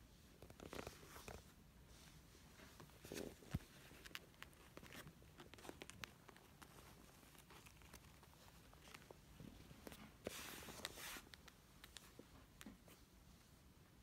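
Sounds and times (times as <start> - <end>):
kittens rustling on fabric: 0.2 - 13.6.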